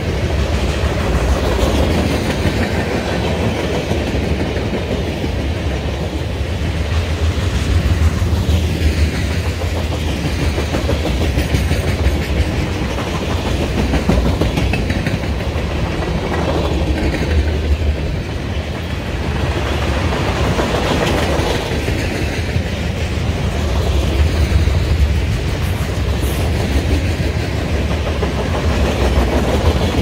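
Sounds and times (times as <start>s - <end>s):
freight train rumble: 0.0s - 30.0s
wheels clacking over rail joints: 0.0s - 30.0s.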